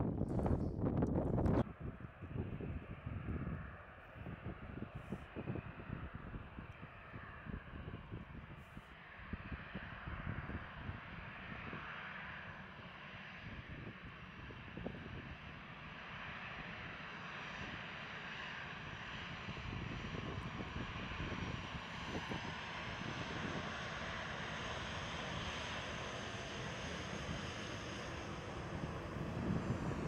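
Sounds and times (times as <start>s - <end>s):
jet engines at taxi power: 0.0s - 30.0s.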